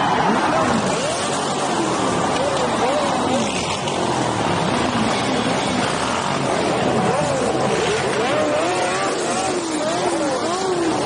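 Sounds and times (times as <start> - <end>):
crowd shouting: 0.0 - 11.0
motorcycle engines droning: 0.0 - 11.0.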